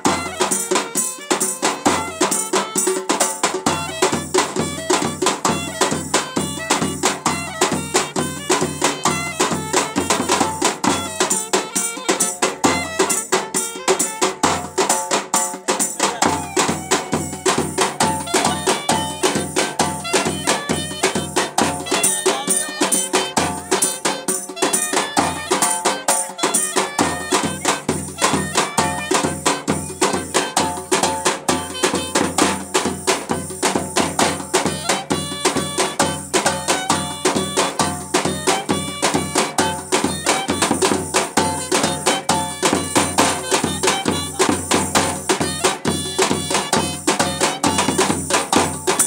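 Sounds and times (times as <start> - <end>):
clarinet folk melody: 0.0 - 49.0
small drum: 0.0 - 49.0
bass drum beaten with stick: 3.4 - 49.0.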